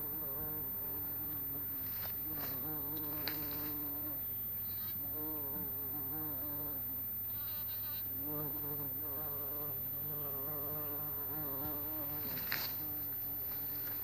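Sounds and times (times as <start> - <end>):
bumblebee wing buzz: 0.0 - 14.0.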